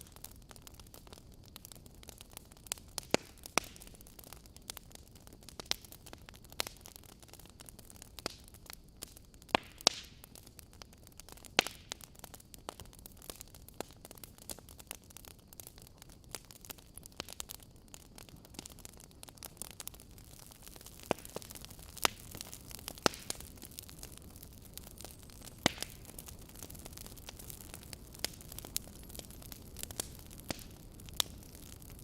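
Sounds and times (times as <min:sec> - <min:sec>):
faint steady hiss: 0:00.0 - 0:32.0
wood fire crackling and popping: 0:00.0 - 0:32.0.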